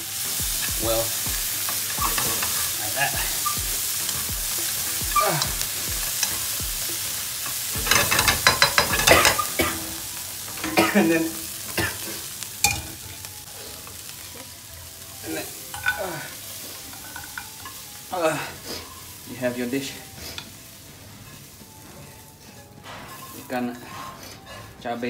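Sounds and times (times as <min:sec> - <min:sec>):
spatula tossing and scraping: 0:00.0 - 0:12.8, 0:15.7 - 0:24.9
fish sizzling in frying pan: 0:00.0 - 0:25.0.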